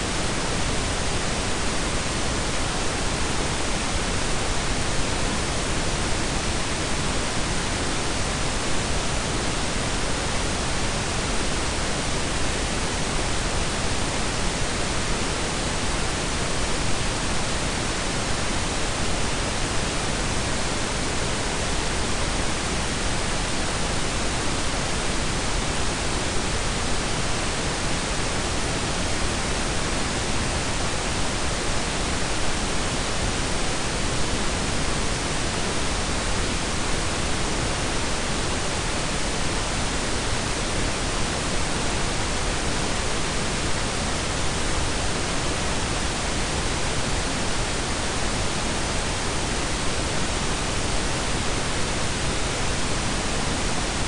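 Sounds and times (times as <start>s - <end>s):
constant even hiss: 0.0s - 54.0s.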